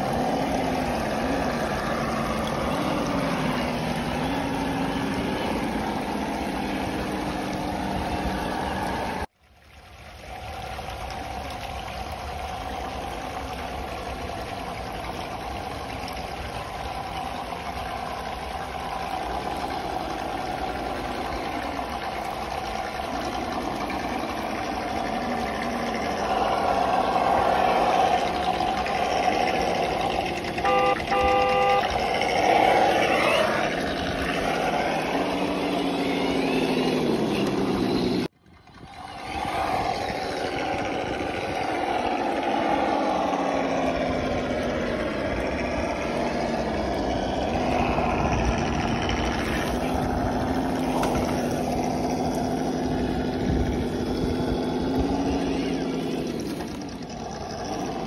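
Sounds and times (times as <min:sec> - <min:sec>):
simulated engine sound: 0:00.0 - 0:58.0.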